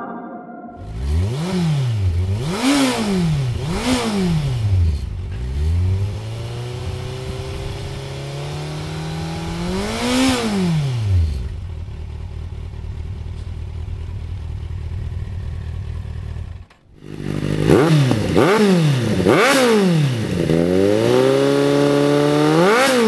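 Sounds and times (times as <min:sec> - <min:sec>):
motorcycle engine revving: 0:00.8 - 0:23.0.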